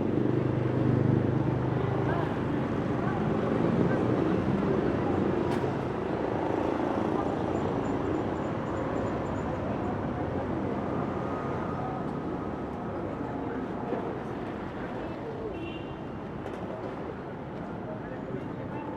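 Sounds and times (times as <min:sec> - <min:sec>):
traffic: 0:00.0 - 0:18.9.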